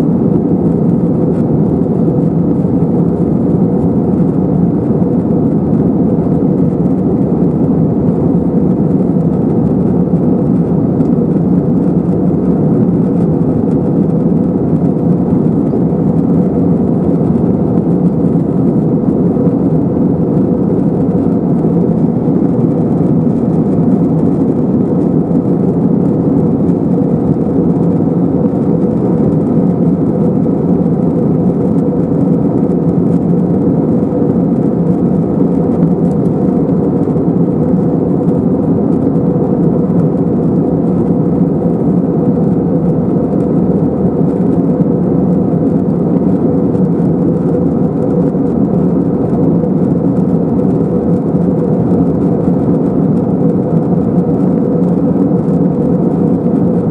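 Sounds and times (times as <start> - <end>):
jet engine rumble: 0.0 - 56.9.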